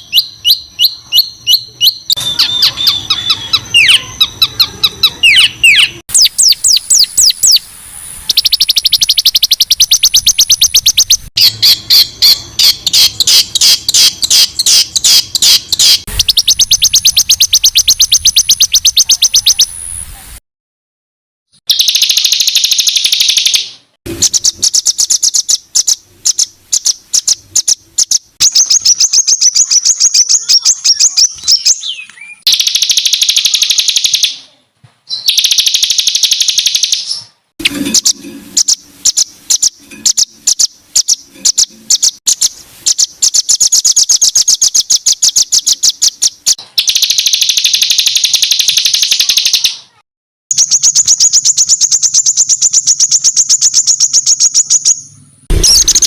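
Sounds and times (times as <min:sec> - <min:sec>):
songbird rapid harsh notes and trills: 0:00.0 - 0:20.2, 0:21.6 - 0:34.5, 0:35.1 - 0:56.0.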